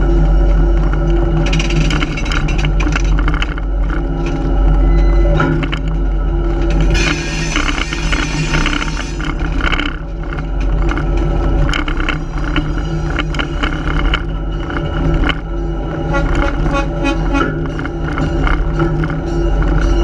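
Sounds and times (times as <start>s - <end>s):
locomotive engine hum: 0.0s - 20.0s
train wheels clicking and clacking: 0.0s - 20.0s.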